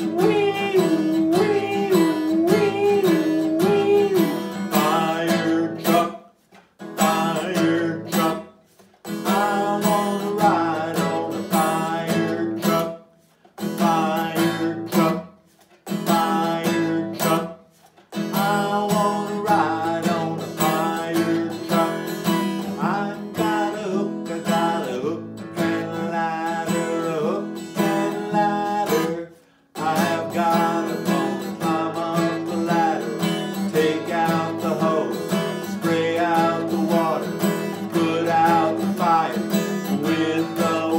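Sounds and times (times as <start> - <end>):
man singing: 0.0 - 40.9
strummed acoustic guitar: 0.0 - 40.9.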